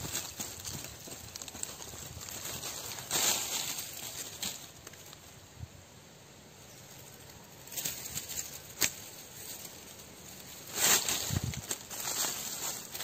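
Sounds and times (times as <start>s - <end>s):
soil and leaves scraping: 0.0s - 5.5s, 6.7s - 13.0s.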